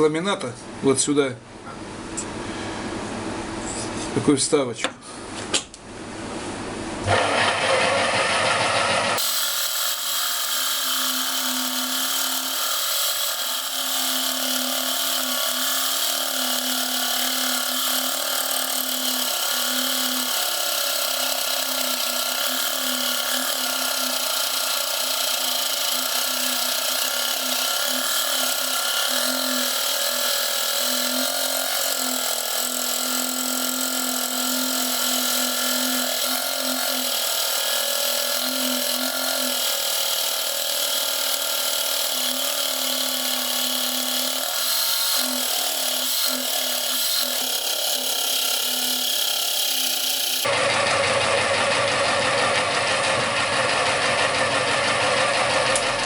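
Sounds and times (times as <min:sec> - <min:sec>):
scroll saw cutting hard flooring: 0:07.0 - 0:56.0.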